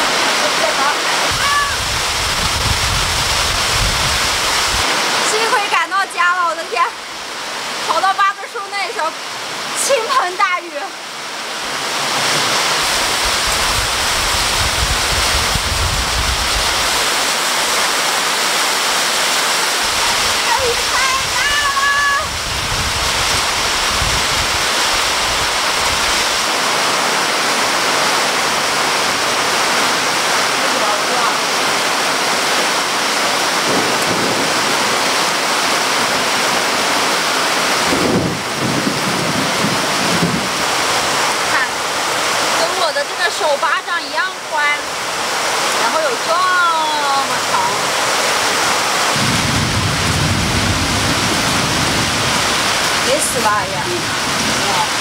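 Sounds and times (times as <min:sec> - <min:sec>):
torrential rain pouring: 0:00.0 - 0:55.0.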